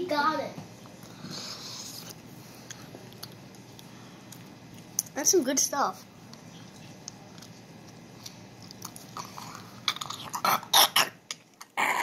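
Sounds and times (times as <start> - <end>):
person chewing candy: 1.0 - 5.1, 6.3 - 12.0.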